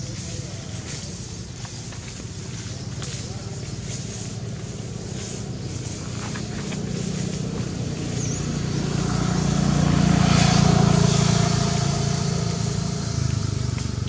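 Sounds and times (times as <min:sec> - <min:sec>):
vehicle driving past: 0:02.1 - 0:14.0.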